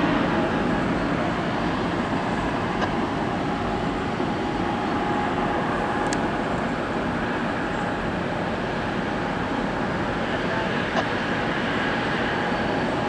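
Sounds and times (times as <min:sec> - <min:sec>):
distant industrial rumble: 0:00.0 - 0:13.0.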